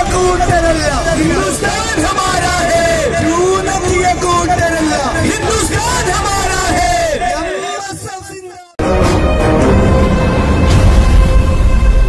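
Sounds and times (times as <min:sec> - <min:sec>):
dramatic music: 0:00.0 - 0:07.4, 0:08.8 - 0:12.0.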